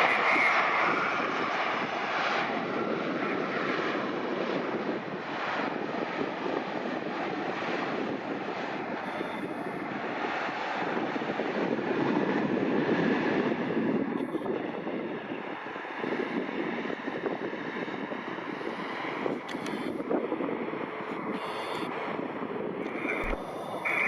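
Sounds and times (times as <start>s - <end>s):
jet airliner engine rush: 0.0s - 24.0s
wind on microphone: 0.0s - 24.0s.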